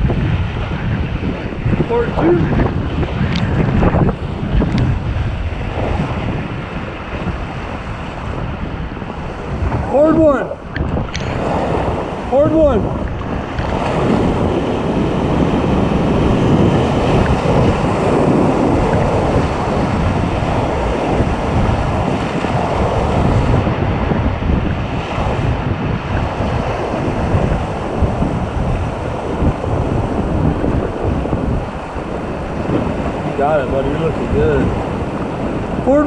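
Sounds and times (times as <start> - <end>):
wind buffeting microphone: 0.0 - 36.0
river water rushing: 5.4 - 36.0.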